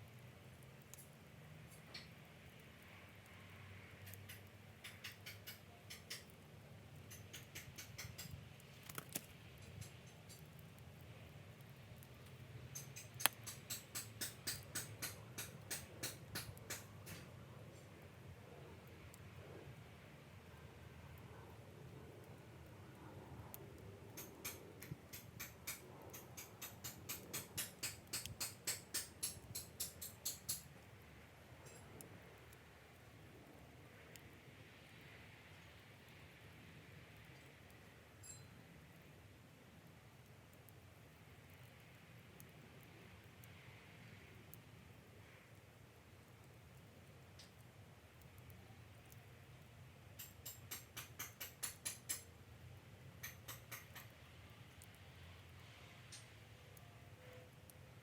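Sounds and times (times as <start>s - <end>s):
sharp pops and ticks: 0.0s - 19.4s, 21.1s - 34.5s, 39.8s - 55.1s, 56.0s - 56.6s
campfire crackling: 0.0s - 58.0s.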